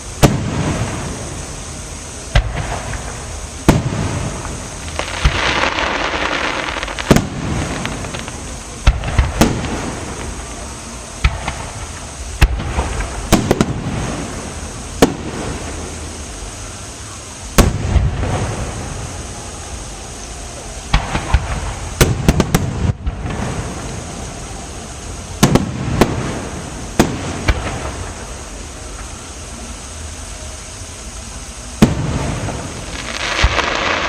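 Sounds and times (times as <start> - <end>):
firework crackling: 0.0 - 34.0.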